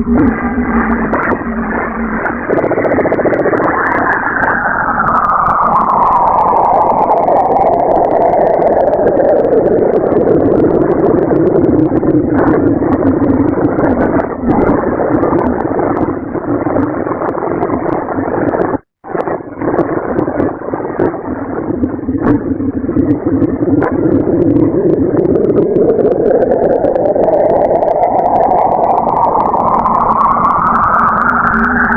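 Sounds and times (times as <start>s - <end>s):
crackling noisy drone: 0.0s - 31.9s.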